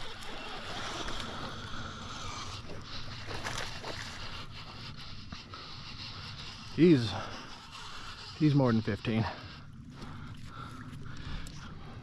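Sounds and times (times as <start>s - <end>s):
water noise: 0.0s - 12.0s.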